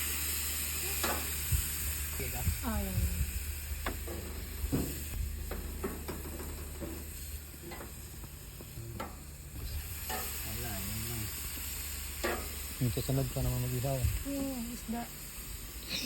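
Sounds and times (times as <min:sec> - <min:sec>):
food sizzling on a grill: 0:00.0 - 0:16.0.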